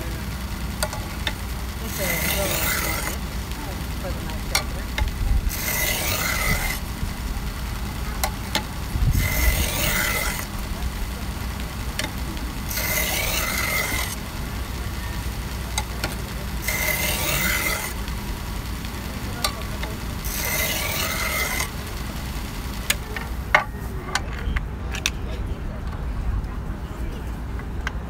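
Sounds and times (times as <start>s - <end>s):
machine low hum: 0.0s - 28.0s
knife grinding on sanding belt: 0.8s - 23.5s.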